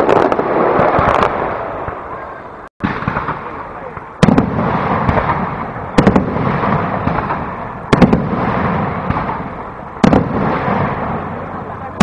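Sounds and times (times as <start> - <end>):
rumbling echo: 0.0 - 12.0.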